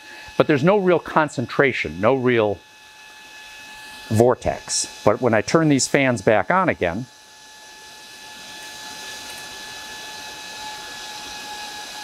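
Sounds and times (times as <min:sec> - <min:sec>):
computer fans whining and hissing: 0:00.0 - 0:12.0.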